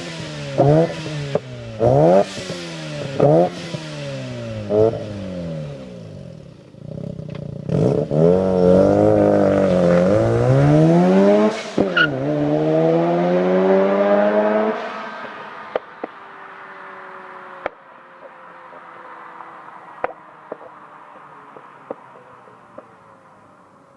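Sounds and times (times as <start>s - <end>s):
rotary car engine revving: 0.0s - 23.1s.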